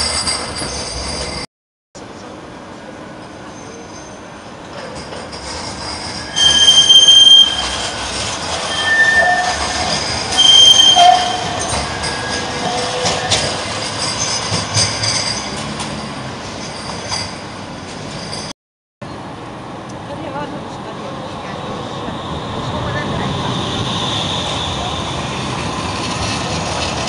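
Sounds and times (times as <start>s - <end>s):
tram wheels squealing: 0.0s - 1.5s, 3.2s - 18.5s, 21.4s - 27.0s
passing tram rumble: 2.0s - 27.0s.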